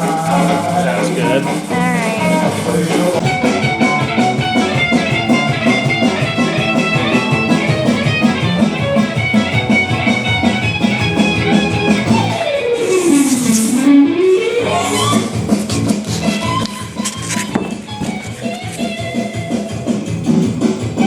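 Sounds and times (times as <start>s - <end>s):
guitar music with steady beat: 0.0s - 21.0s.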